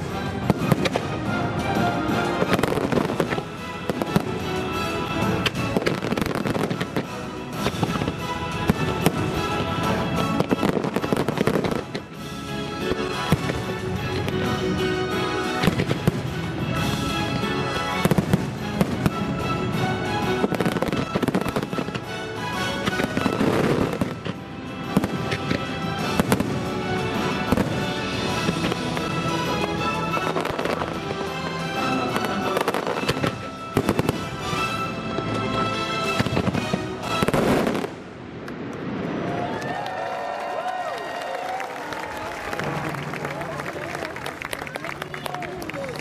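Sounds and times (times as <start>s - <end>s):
loud soundtrack music: 0.0s - 37.9s
fireworks bursting and crackling: 0.0s - 46.0s.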